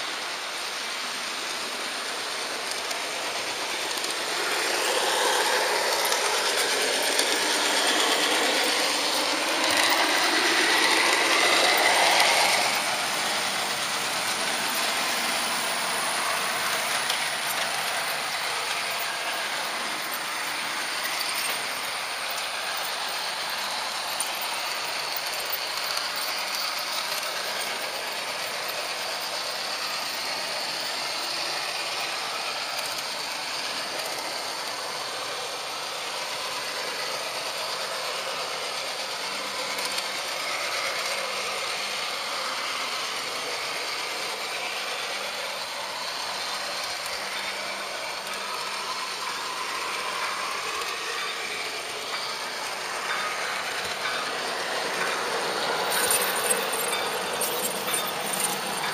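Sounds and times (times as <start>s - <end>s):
model train rattling on track: 0.0s - 58.9s.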